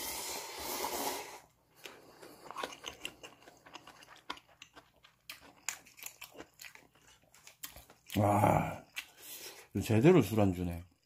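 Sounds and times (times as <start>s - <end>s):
person chewing food: 0.1s - 9.7s.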